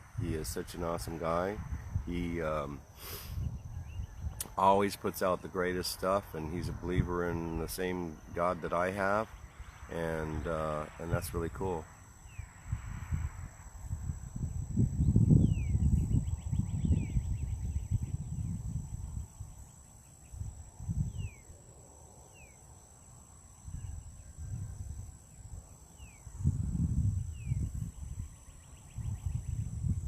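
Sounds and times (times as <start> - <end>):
wind rumble on microphone: 0.0 - 21.6, 23.6 - 30.0
faint buzzy bird trill: 0.0 - 30.0.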